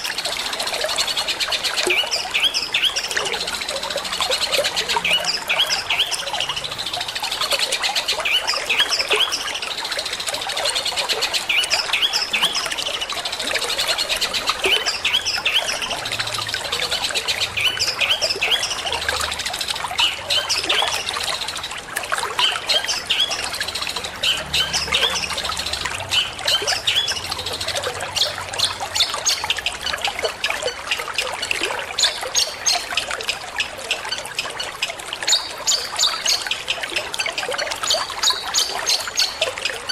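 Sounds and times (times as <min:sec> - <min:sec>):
bird chirping song: 0:00.0 - 0:39.9
trickling water: 0:00.0 - 0:39.9.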